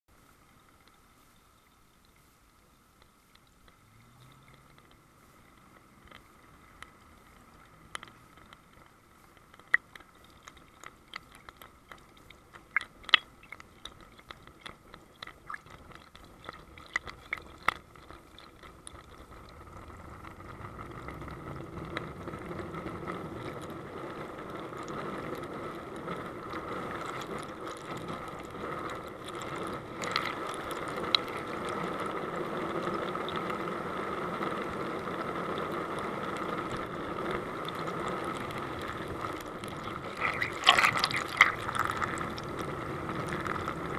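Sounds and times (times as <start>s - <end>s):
muffled water rushing over plastic: 0.1s - 43.9s.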